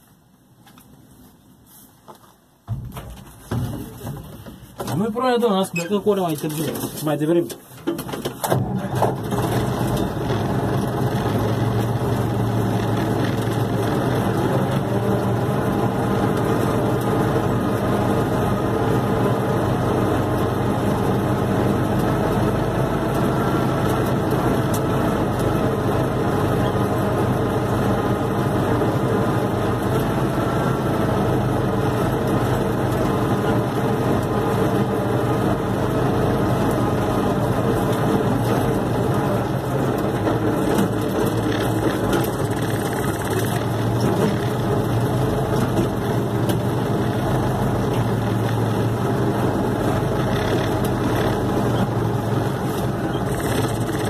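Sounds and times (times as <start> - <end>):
tractor diesel engine running: 2.7 - 54.0.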